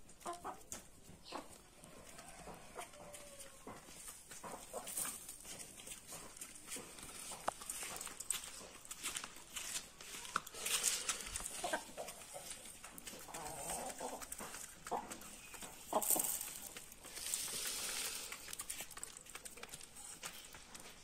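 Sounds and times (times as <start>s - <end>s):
hens clucking: 0.0s - 6.3s, 10.1s - 21.0s
pecks tapping on concrete: 2.2s - 21.0s.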